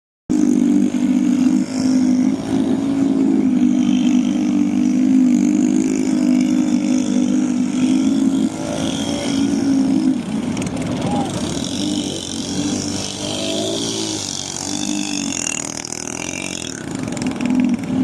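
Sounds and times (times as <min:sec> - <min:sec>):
small engine running hard: 0:00.3 - 0:18.0.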